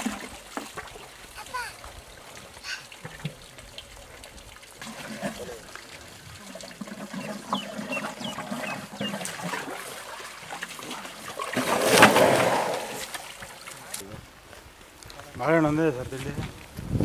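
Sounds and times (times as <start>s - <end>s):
water pouring and splashing: 0.0s - 14.1s.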